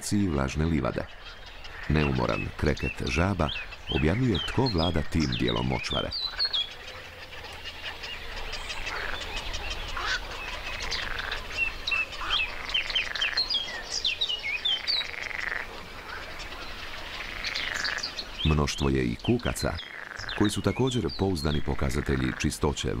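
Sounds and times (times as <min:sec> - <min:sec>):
frogs croaking: 0:00.0 - 0:23.0
high bird chirps: 0:00.6 - 0:22.4.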